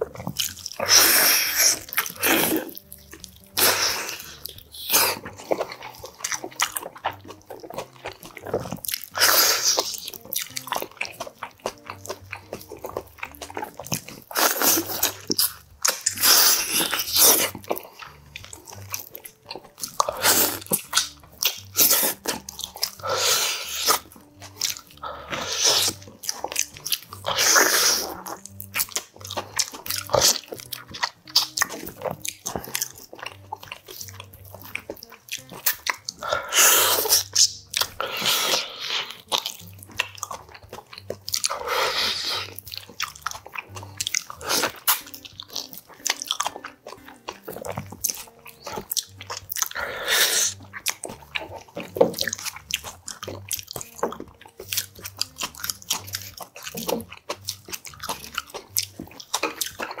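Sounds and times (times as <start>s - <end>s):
biting and chewing meat: 0.0s - 60.0s.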